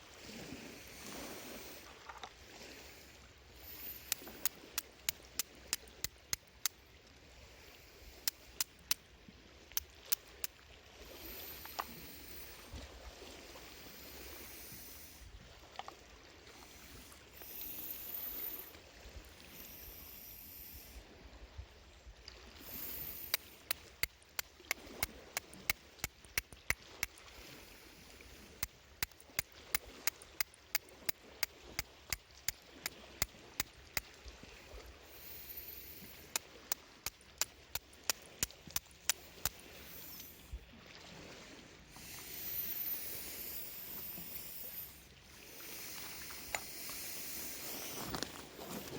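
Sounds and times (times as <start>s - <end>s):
water sound: 0.0s - 48.9s.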